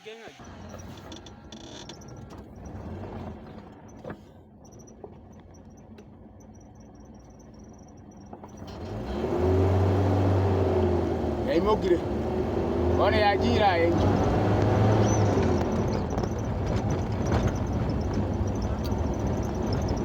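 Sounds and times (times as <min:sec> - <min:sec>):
vehicle engine rumbling and revving: 0:00.3 - 0:20.0.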